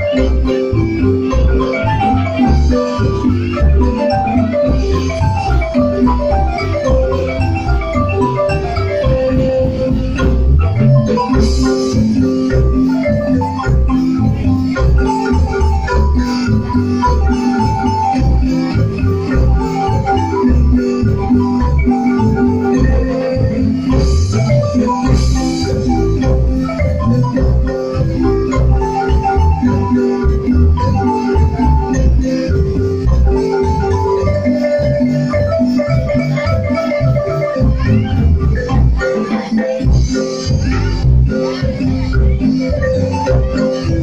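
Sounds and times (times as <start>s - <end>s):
marimba dance music: 0.0s - 44.0s.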